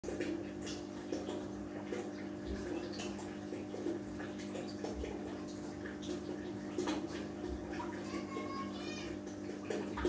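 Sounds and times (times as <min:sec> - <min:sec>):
aquarium filter water splashing: 0:00.0 - 0:10.0
low pump hum: 0:00.0 - 0:10.0.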